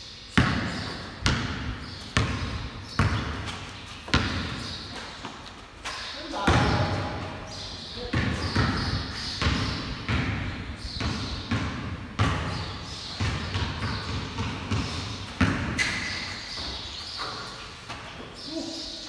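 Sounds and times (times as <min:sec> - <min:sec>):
basketball bouncing on concrete: 0:00.4 - 0:18.4.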